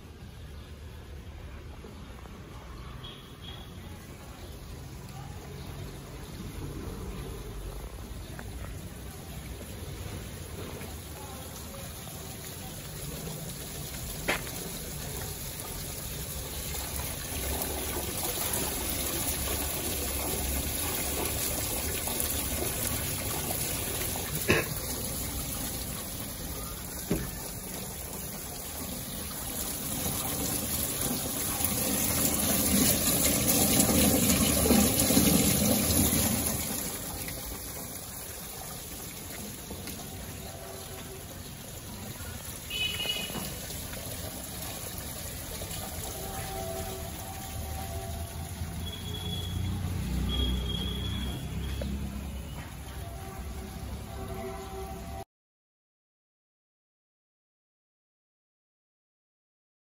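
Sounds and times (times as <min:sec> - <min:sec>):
running water: 0:00.0 - 0:55.2.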